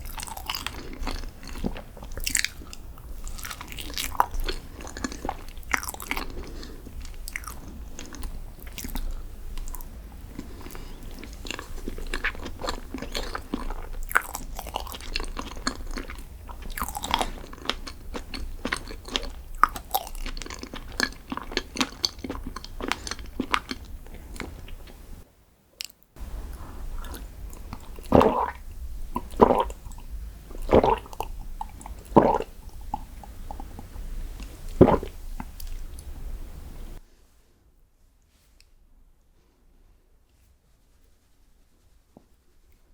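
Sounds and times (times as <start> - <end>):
chewing and crunching: 0.0 - 25.2, 25.8 - 36.2.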